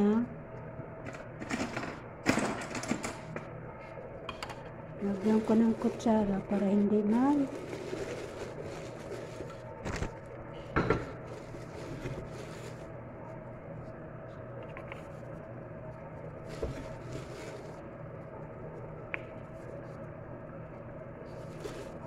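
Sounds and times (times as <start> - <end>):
kettle water boiling: 4.2 - 22.0.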